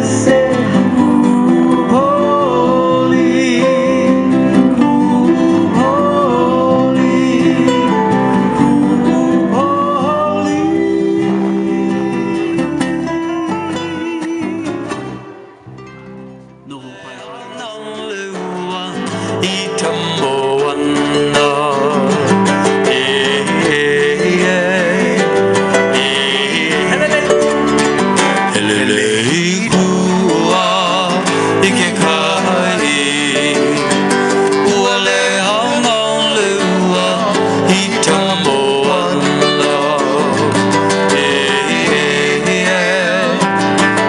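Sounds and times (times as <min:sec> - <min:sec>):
hawaiian music with acoustic guitar: 0:00.0 - 0:44.0.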